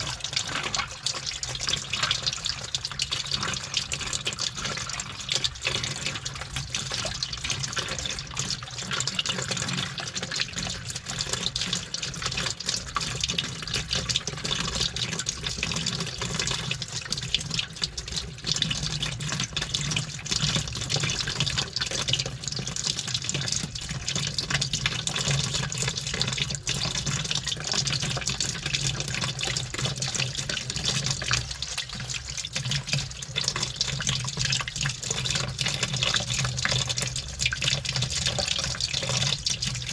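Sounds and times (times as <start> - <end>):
washing machine hum: 0.0 - 39.9
water sloshing in washing machine: 0.0 - 39.9.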